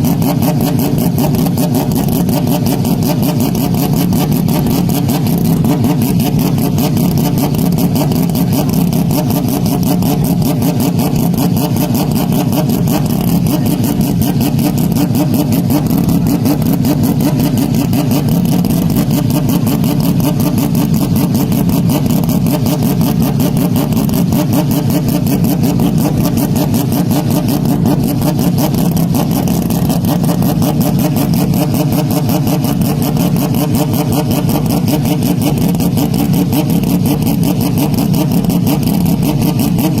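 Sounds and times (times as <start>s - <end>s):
loud distorted engine drone: 0.0s - 40.0s.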